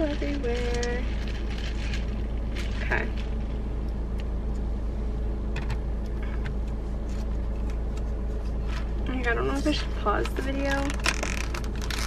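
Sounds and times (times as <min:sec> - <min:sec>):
car idling from inside cabin: 0:00.0 - 0:10.9.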